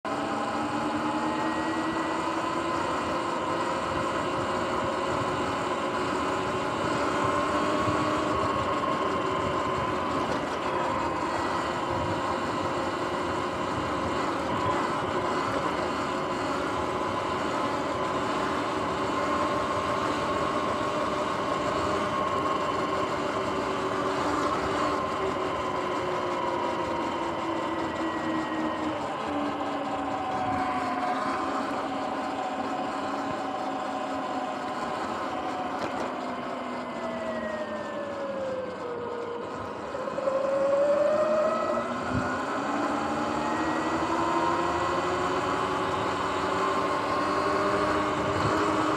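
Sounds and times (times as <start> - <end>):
electric motor whine: 0.1 - 48.9.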